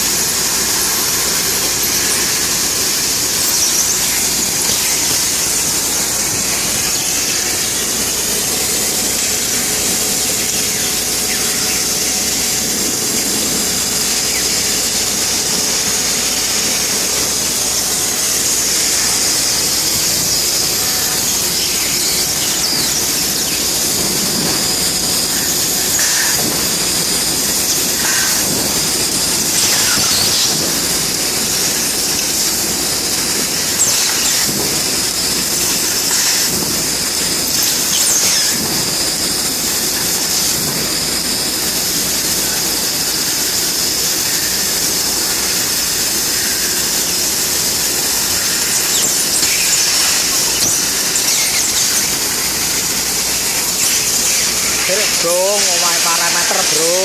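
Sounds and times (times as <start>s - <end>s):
laser cutting machine hissing: 0.0s - 57.0s.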